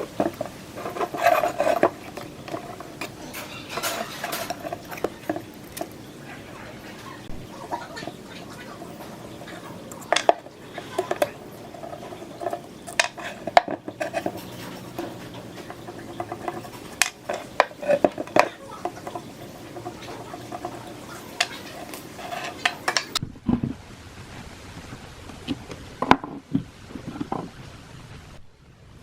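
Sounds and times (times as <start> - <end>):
metal fan parts clanking: 0.0 - 23.7.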